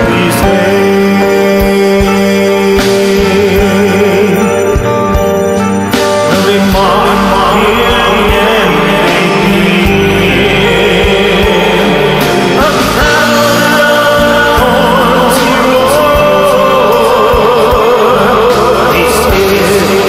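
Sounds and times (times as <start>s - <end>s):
instrumental backing music: 0.0s - 20.0s
person singing: 0.0s - 20.0s.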